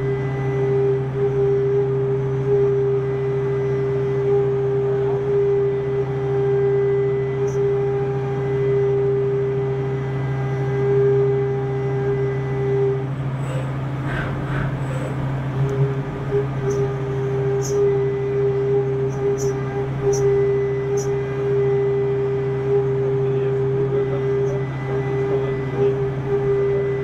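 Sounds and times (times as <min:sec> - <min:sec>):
held higher machine tone: 0:00.0 - 0:27.0
machine hum: 0:00.0 - 0:27.0.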